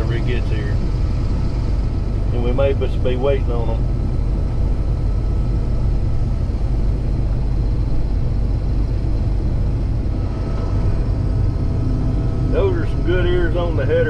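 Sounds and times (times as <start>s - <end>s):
combine harvester droning: 0.0s - 14.0s.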